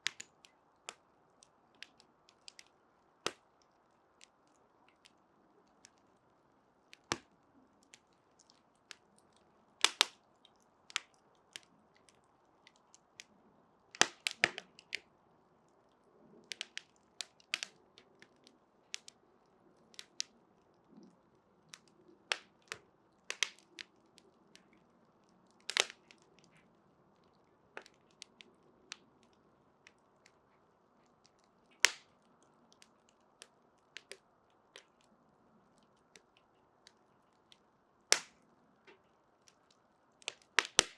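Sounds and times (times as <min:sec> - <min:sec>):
burning wood crackling: 0:00.0 - 0:40.9.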